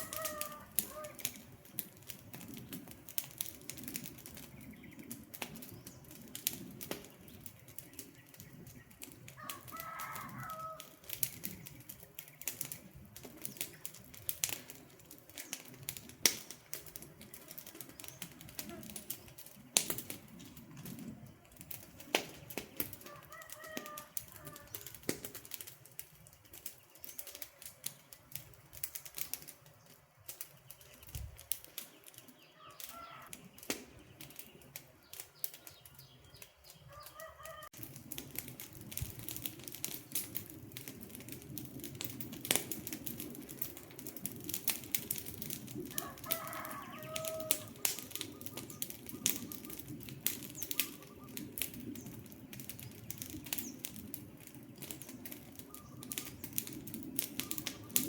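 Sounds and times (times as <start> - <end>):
low rushing of flames: 0.0 - 58.0
wood campfire crackling: 0.0 - 58.0.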